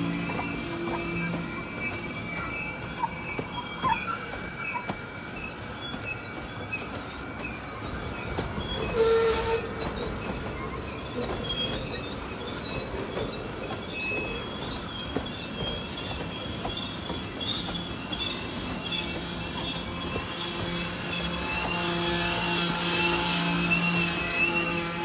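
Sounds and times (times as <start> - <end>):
wheel flange squeals: 0.0 - 25.0.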